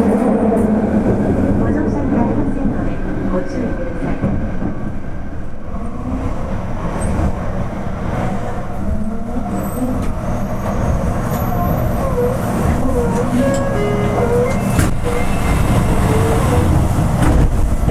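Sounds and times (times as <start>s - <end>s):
train running rumble: 0.0s - 17.9s.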